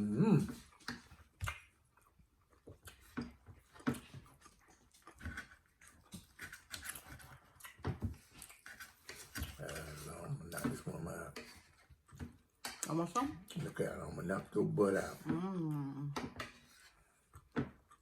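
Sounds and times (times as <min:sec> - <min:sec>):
people chewing steak: 0:00.0 - 0:18.0.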